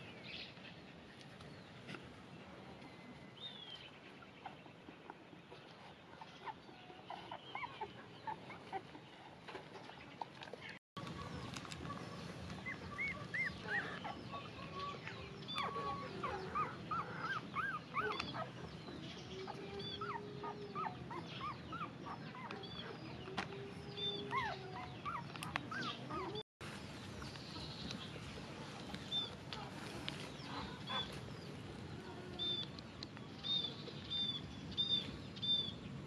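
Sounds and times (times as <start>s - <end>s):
background animal and yard hum: 0.0s - 36.0s.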